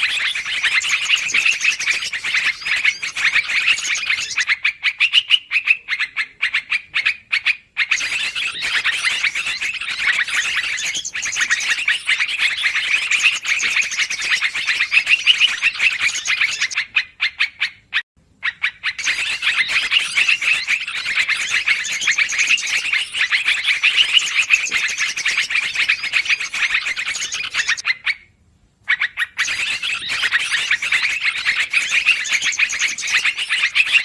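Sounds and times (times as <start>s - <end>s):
songbirds chattering: 0.0s - 28.2s, 28.9s - 34.0s.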